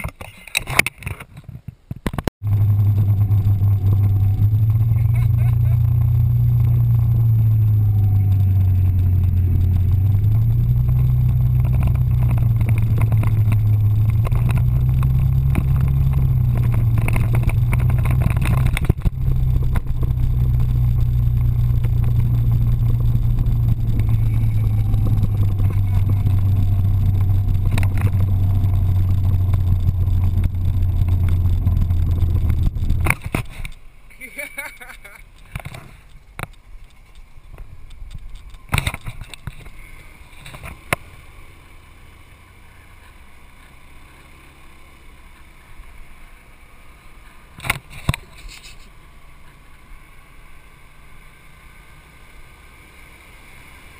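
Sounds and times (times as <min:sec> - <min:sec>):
scooter engine droning: 0:02.4 - 0:53.9.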